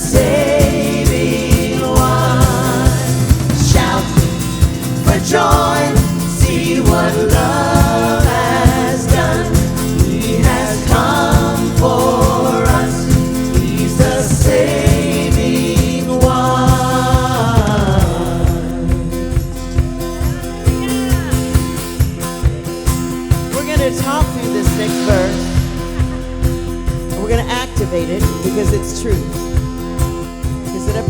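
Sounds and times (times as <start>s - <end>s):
people singing: 0.0s - 22.0s, 23.7s - 29.3s
steady drum beat: 0.0s - 31.0s
worship band playing: 0.0s - 31.0s.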